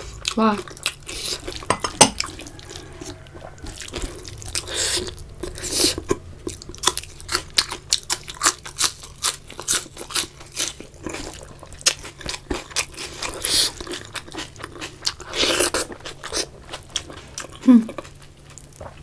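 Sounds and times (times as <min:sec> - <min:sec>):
crisp crunching and chewing: 0:00.0 - 0:19.0
wet squishing of food by hand: 0:00.0 - 0:19.0.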